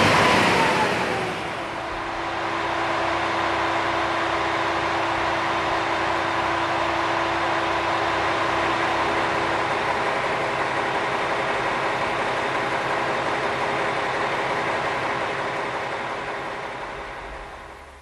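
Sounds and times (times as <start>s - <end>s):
diesel railcar engine drone: 0.0s - 18.0s.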